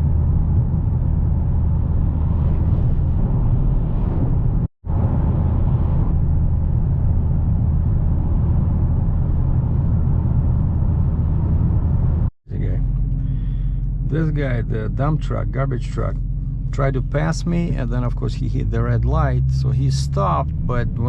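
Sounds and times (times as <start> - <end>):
car engine hum in cabin: 0.0 - 21.0
road and tyre noise: 0.0 - 21.0.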